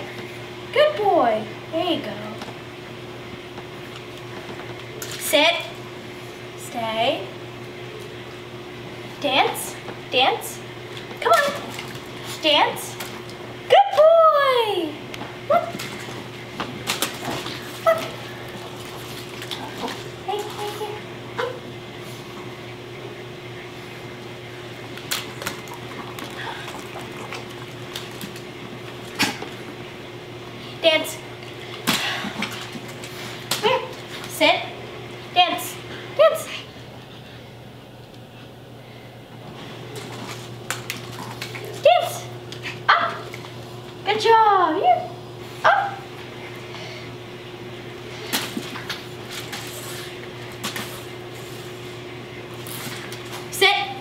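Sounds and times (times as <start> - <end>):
room tone hiss and hum: 0.0 - 54.0.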